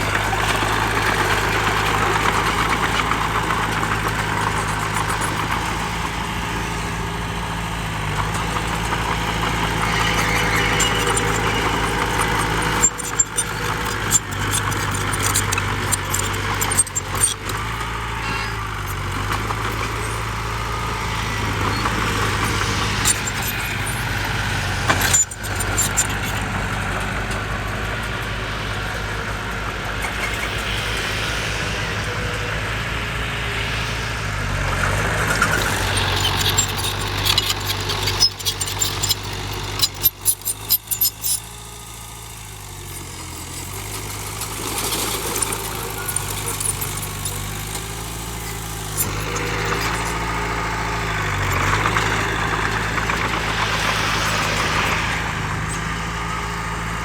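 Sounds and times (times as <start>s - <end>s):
heavy diesel machinery running: 0.0s - 57.0s
sharp clanks and rattles: 0.0s - 57.0s.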